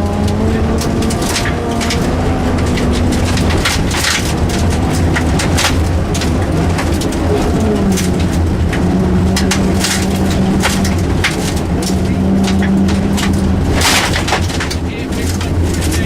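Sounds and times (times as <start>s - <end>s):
gravel striking car underside: 0.0s - 16.0s
rally car engine running: 0.0s - 16.0s.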